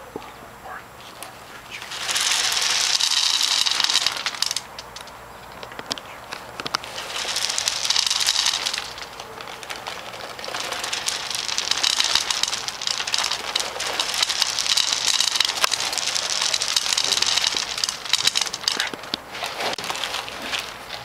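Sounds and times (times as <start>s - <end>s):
feed pellets pouring down a pipe: 1.7s - 5.1s, 6.7s - 21.0s
sharp clicks: 1.7s - 19.2s
pellets pattering into wooden trough: 1.7s - 21.0s.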